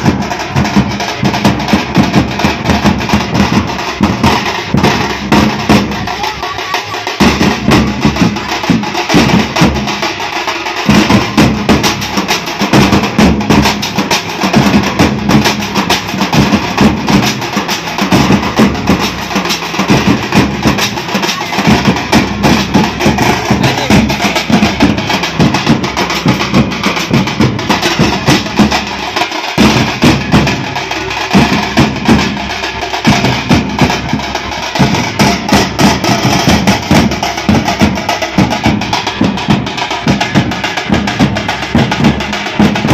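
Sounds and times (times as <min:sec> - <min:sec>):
drum band playing: 0:00.0 - 0:42.9.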